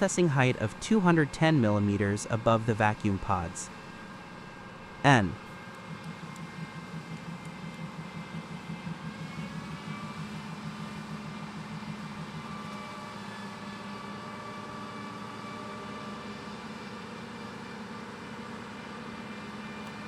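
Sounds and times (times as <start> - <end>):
machine hum with whining tones: 0.0 - 20.0.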